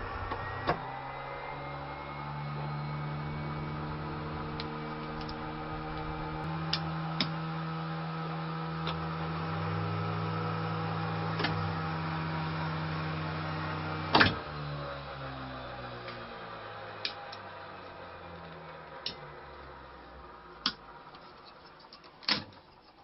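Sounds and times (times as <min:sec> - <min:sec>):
electrical hum: 0:00.0 - 0:22.2.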